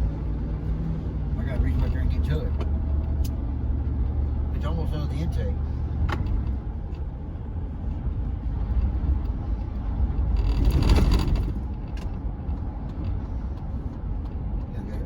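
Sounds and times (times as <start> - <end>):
road and engine noise in a cab: 0.0 - 15.0.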